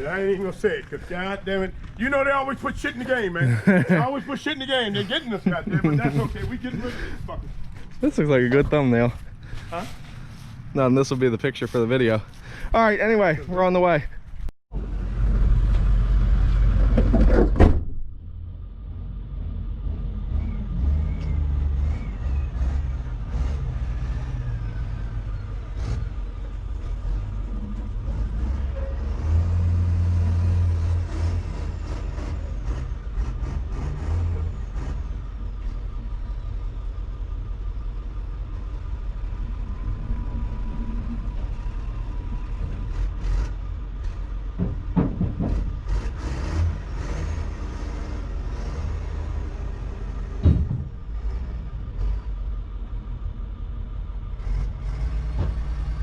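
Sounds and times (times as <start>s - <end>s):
engine and road rumble: 0.0s - 56.0s.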